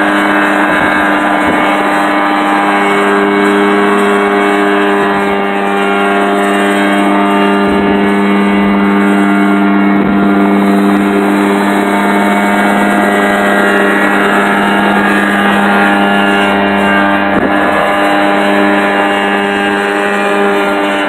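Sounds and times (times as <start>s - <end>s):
helicopter engine running loud: 0.0s - 21.0s
helicopter rotor turning: 0.0s - 21.0s.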